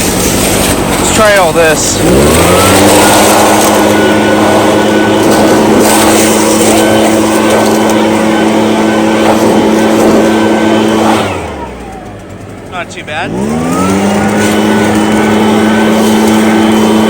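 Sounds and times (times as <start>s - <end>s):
rush of air from blower: 0.0s - 12.0s, 13.3s - 17.0s
leaf blower engine running: 0.0s - 17.0s.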